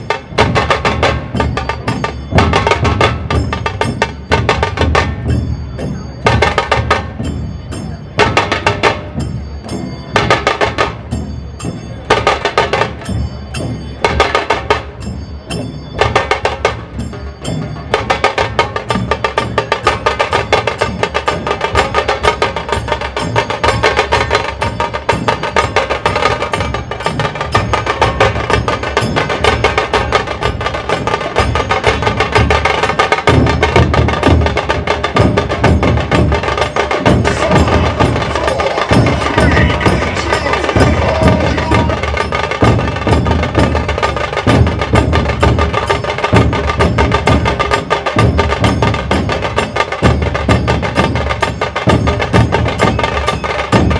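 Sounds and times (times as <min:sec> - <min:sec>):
dhol drums beating: 0:00.0 - 0:53.9
sharp cracking tasha drums: 0:00.0 - 0:53.9.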